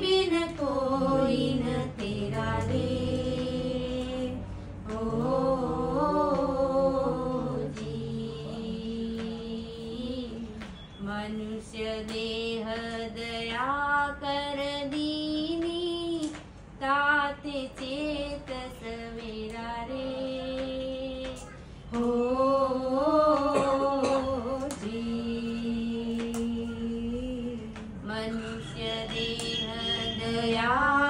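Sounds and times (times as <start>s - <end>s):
woman singing unaccompanied: 0.0s - 31.0s.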